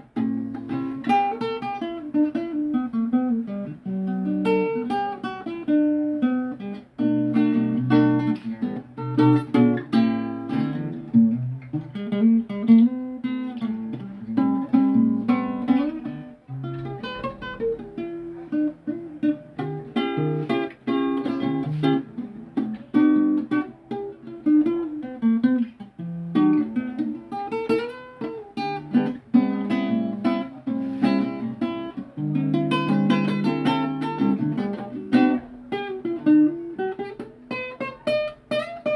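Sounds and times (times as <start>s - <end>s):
plucked string instrument playing: 0.0s - 38.9s.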